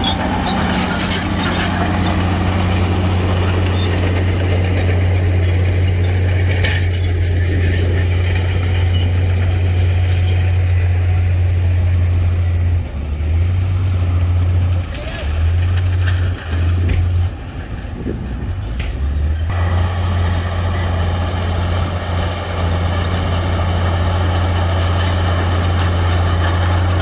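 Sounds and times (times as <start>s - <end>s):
heavy diesel engine humming: 0.0s - 27.0s.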